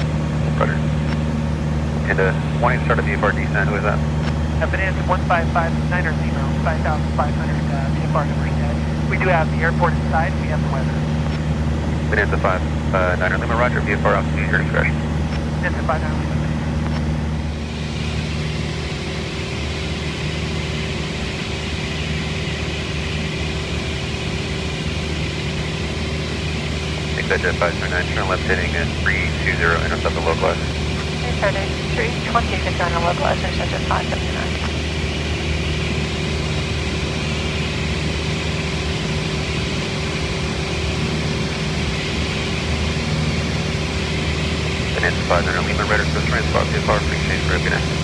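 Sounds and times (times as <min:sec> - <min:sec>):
airplane engine and propeller humming: 0:00.0 - 0:48.0.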